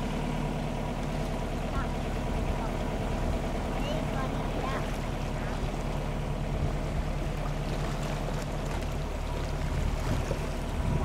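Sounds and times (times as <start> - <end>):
boat engine running: 0.0 - 11.0
water rushing past hull: 0.0 - 11.0.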